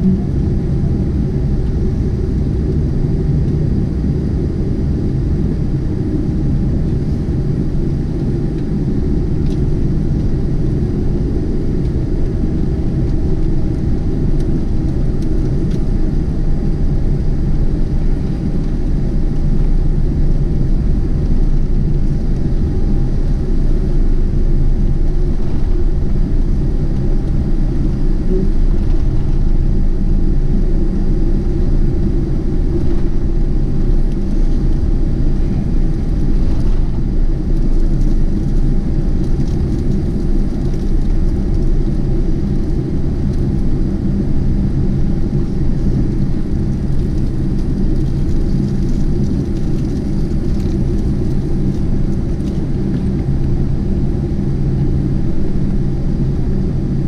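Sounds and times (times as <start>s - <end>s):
aircraft cabin rumble: 0.0s - 57.0s
faint steady whine: 0.0s - 57.0s.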